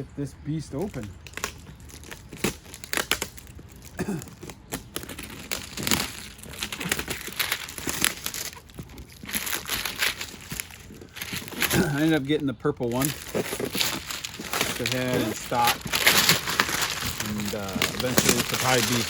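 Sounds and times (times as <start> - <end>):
packaging crinkling and tearing: 0.7 - 19.0.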